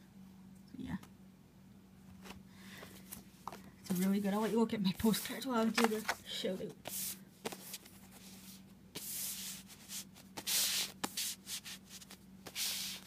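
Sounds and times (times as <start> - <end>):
faint steady hum: 0.0 - 13.0
cards scraping on carpet: 2.2 - 13.0.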